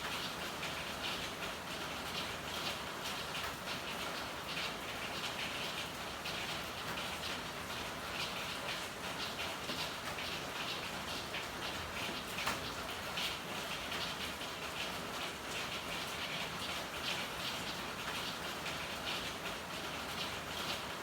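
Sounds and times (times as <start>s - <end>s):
rain pattering on hard surfaces: 0.0s - 21.0s.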